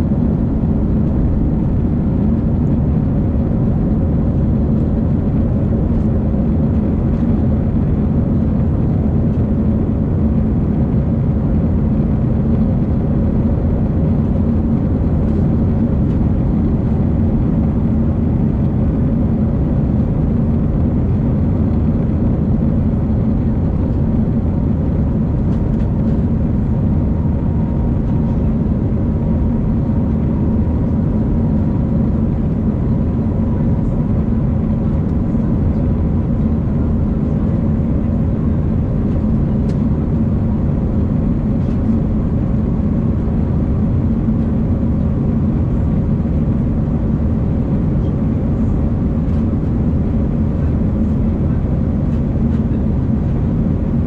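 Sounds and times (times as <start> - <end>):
airplane engine and airflow rumble: 0.0 - 54.0.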